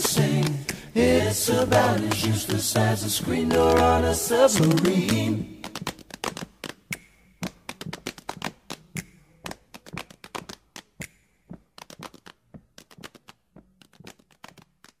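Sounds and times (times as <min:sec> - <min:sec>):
rapid sharp clicks and taps: 0:00.0 - 0:15.0.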